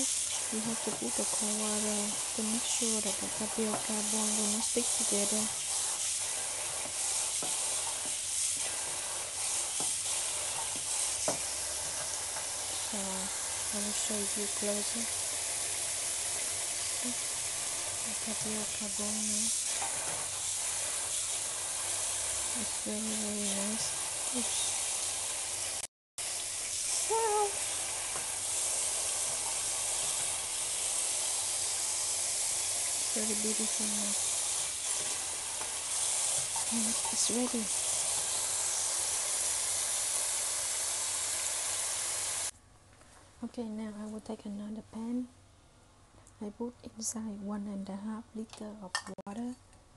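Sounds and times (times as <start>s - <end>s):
tap water running into colander: 0.0s - 42.5s.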